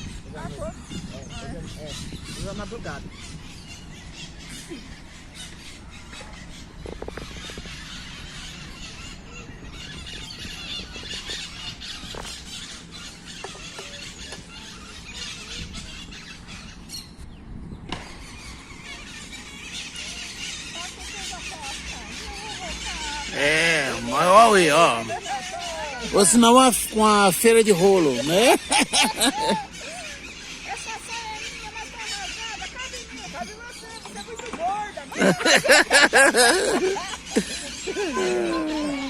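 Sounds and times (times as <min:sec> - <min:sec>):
parrots screeching and chattering: 0:00.0 - 0:17.2, 0:18.1 - 0:39.0.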